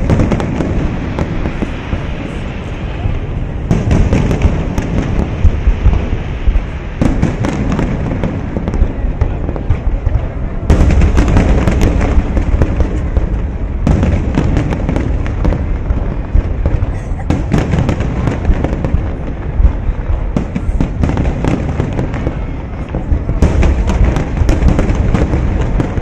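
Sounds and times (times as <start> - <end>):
fireworks booming and crackling: 0.0 - 26.0.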